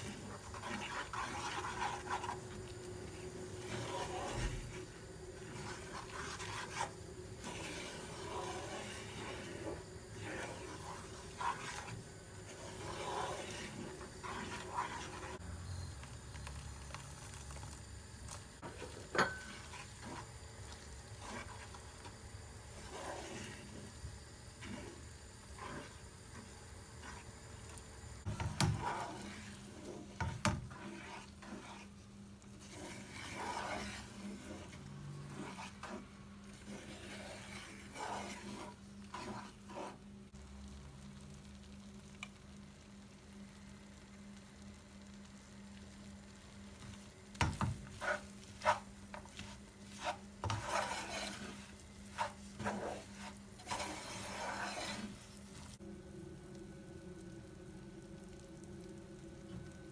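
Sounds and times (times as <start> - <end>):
utensil stirring and scraping in a pan: 0.0 - 40.4, 44.7 - 56.0.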